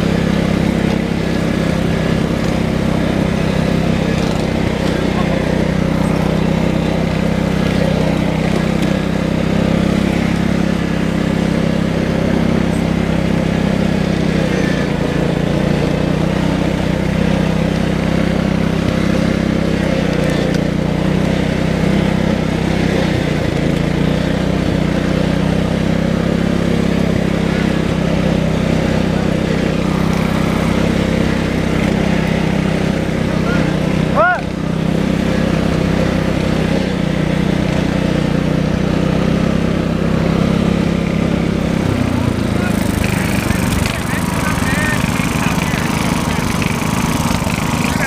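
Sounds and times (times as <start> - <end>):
tractor engine droning: 0.0 - 48.0.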